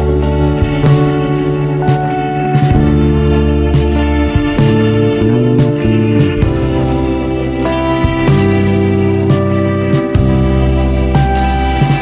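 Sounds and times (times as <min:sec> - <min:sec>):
slow song with sustained chords: 0:00.0 - 0:12.0.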